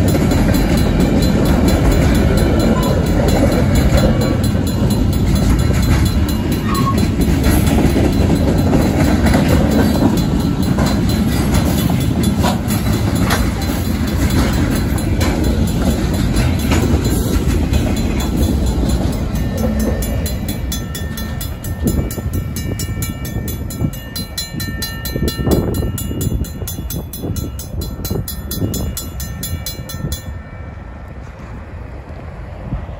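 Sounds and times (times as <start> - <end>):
crossing bell ringing: 0.0 - 31.6
freight train wheels rumbling: 0.0 - 32.9.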